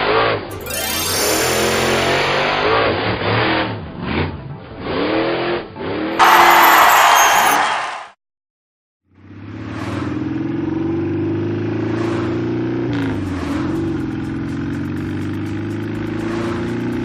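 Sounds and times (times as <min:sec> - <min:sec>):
cartoon vehicle engine: 0:00.1 - 0:07.5, 0:09.1 - 0:17.0.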